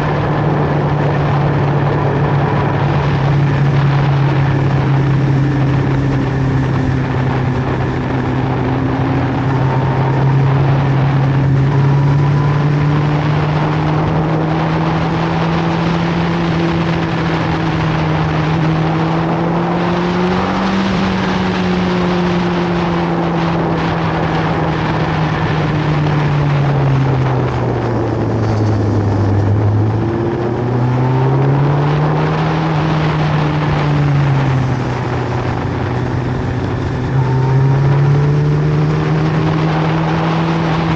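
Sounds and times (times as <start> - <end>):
motorcycle engine running: 0.0 - 40.9
rushing noise: 0.0 - 40.9.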